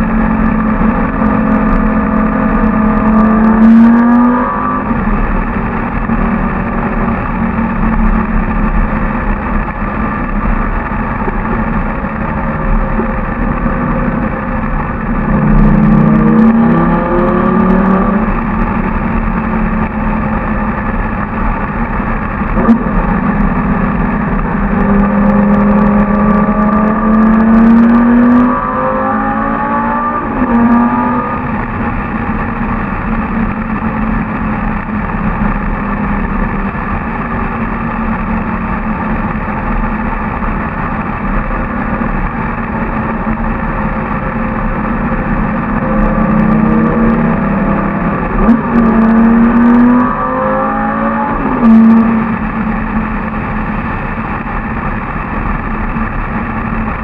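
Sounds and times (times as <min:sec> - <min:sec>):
car engine revving echoing: 0:00.0 - 0:57.0.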